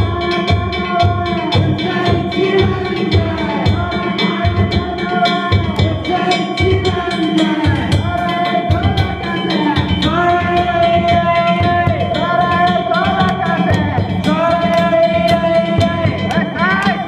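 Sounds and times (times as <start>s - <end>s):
drum beating: 0.0s - 17.0s.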